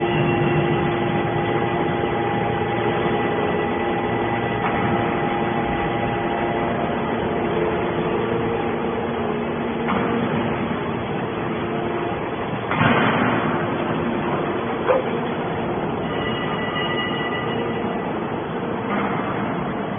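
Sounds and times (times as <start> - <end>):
hydraulic machine hum: 0.0 - 19.9.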